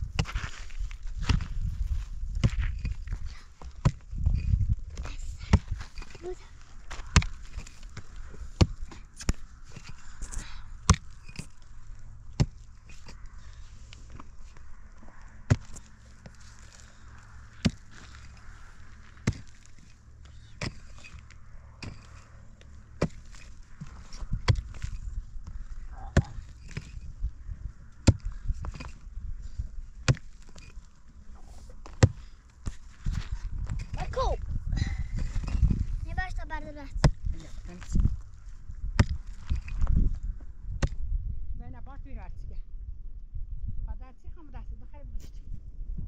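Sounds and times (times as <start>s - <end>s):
low steady rumble: 0.0s - 46.0s.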